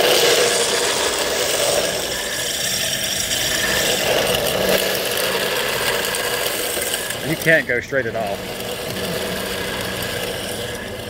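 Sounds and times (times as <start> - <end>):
rc car rattling and scrubbing: 0.0 - 11.0.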